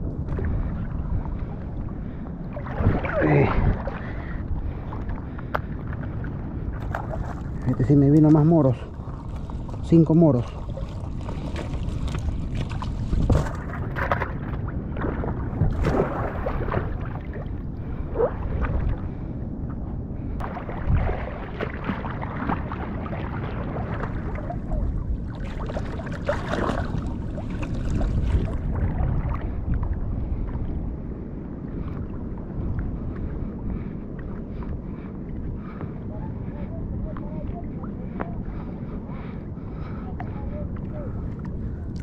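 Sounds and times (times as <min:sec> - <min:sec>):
sea water splashing: 0:00.0 - 0:19.4, 0:20.4 - 0:42.0
low rumble: 0:00.0 - 0:42.0.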